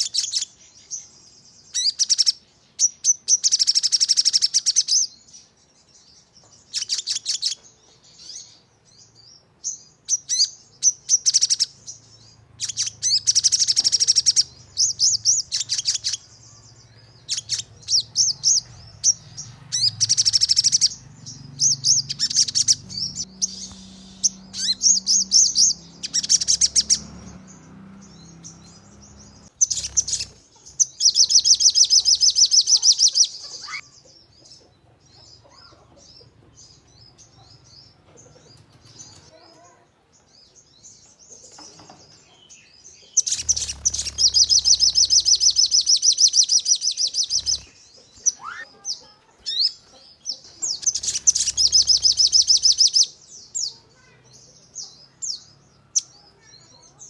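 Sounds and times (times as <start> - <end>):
bird singing rapid trills: 0.0 - 39.4, 40.2 - 57.0.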